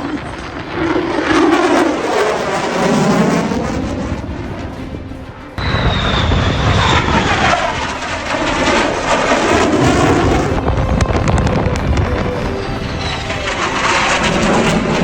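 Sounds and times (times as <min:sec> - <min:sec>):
fighter jet passing low: 0:00.0 - 0:15.0
high jet whine: 0:00.0 - 0:15.0.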